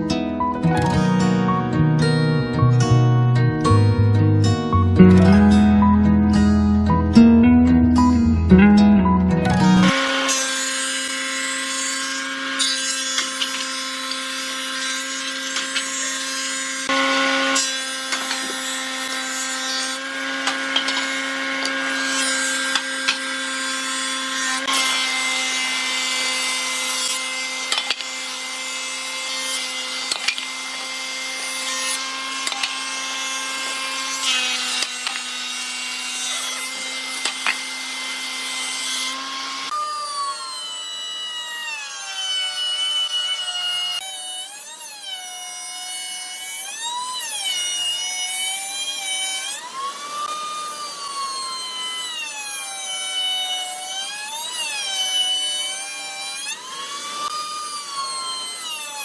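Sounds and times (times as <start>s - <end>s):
power tool motor whine: 9.5s - 59.0s.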